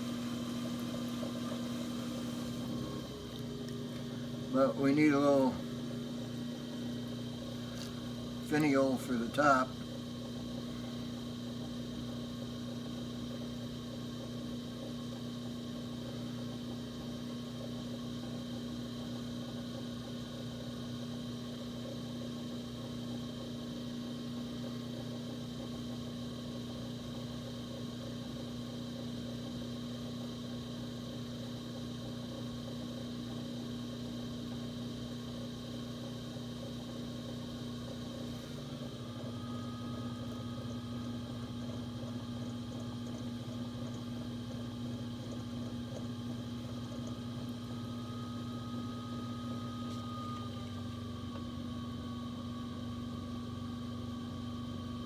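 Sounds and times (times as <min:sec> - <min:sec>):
potter's wheel motor hum: 0:00.0 - 0:55.0.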